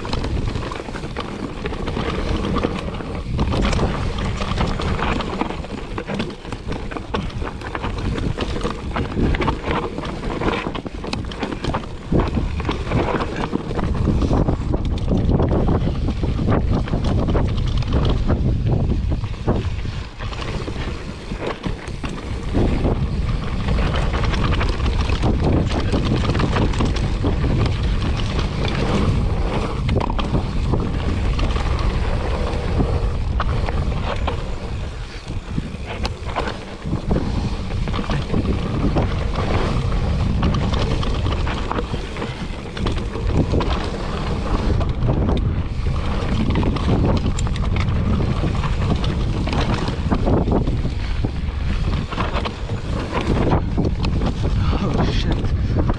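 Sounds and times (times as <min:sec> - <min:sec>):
bike clicks and rattles: 0:00.0 - 0:55.9
tyre rumble: 0:00.0 - 0:55.9
wind buffeting microphone: 0:00.0 - 0:55.9.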